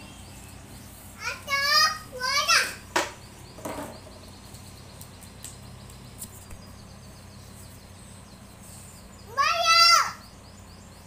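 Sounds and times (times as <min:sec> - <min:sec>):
high-pitched bird chirping: 0:00.0 - 0:11.0.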